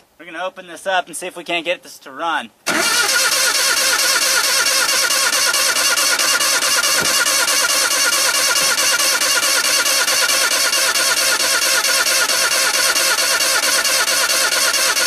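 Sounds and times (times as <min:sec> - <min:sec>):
starter motor cranking engine: 0:02.6 - 0:15.0.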